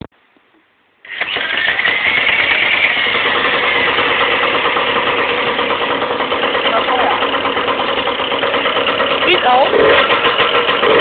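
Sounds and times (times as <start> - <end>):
moped engine starting and idling: 1.0 - 11.0.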